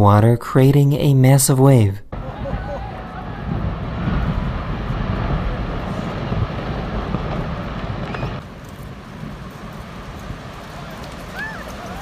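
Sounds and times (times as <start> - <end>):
wind: 0.0 - 12.0
falling ice rumbling: 2.2 - 12.0
water washing: 2.2 - 12.0.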